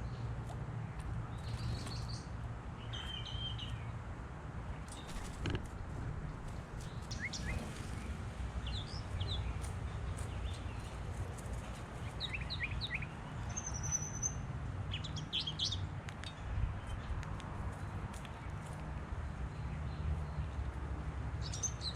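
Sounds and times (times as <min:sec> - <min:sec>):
small birds chirping: 0:00.0 - 0:04.0, 0:06.5 - 0:21.9.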